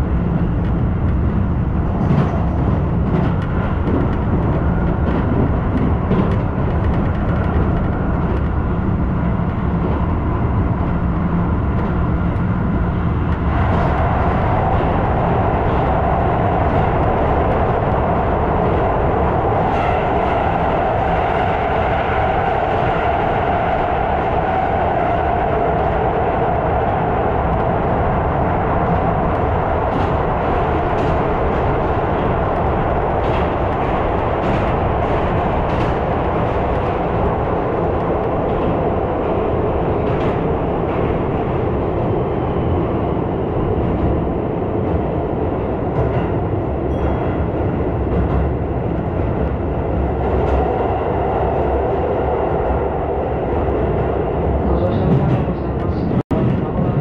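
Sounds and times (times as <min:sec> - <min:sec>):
electric train rumble and hum: 0:00.0 - 0:57.0.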